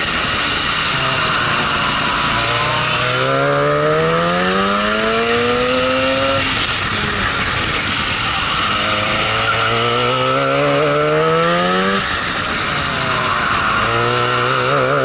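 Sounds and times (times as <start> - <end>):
kart engine accelerating: 0.0 - 15.0.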